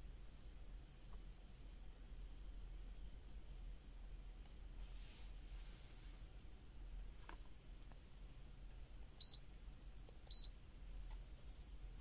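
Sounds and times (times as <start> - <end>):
faint low hum: 0.0 - 12.0
room hiss: 0.0 - 12.0.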